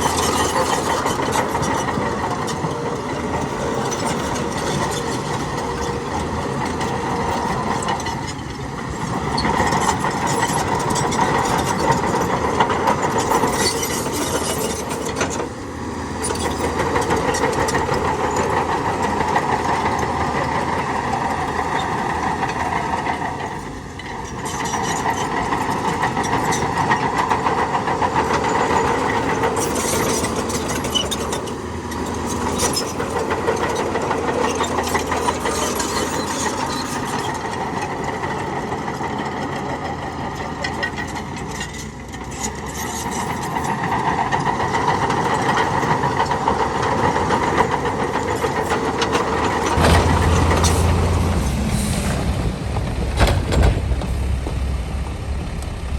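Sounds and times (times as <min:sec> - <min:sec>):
heavy diesel machinery engine: 0:00.0 - 0:55.9.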